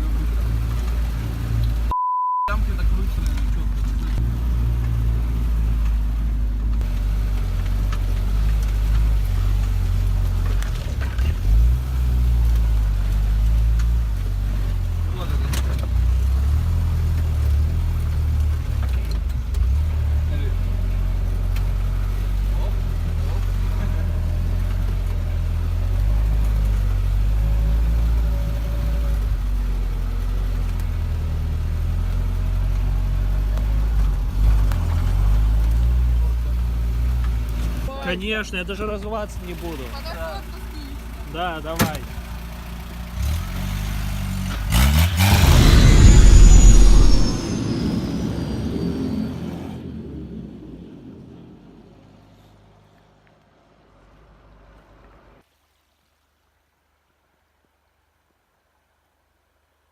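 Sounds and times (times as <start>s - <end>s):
off-road vehicle engine running: 0.0s - 1.9s, 2.5s - 55.4s.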